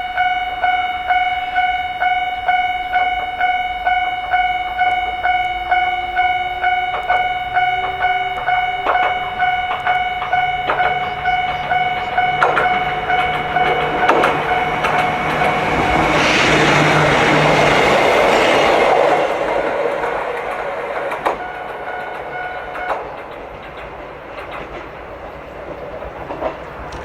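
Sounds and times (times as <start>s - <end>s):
level crossing warning bell: 0.0s - 23.6s
train wheel noise: 0.0s - 27.0s.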